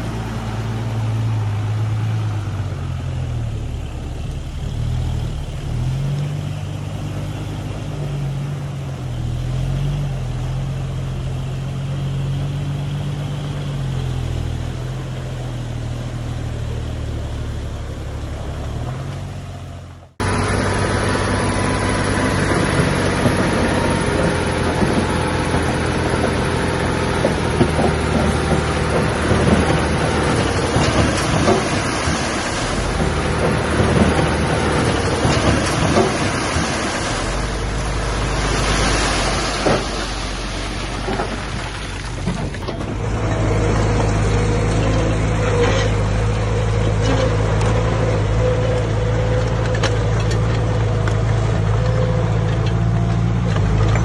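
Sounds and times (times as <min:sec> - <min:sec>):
earthmoving machinery diesel engines: 0:00.0 - 0:54.0.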